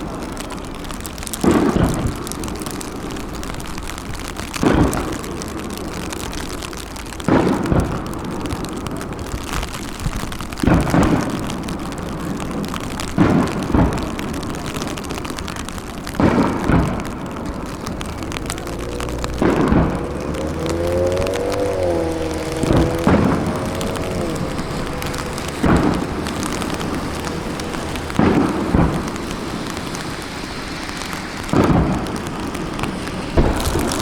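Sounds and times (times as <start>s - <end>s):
fireworks booming: 0.0s - 34.0s.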